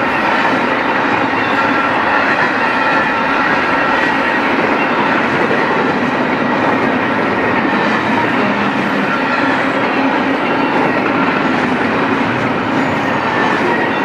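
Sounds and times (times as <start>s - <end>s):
steel train wheels on rail: 0.0s - 14.0s.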